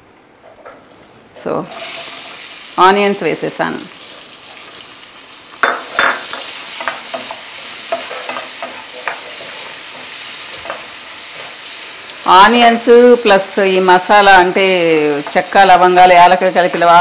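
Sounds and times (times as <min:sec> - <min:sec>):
onions sizzling in oil: 0:01.4 - 0:17.0.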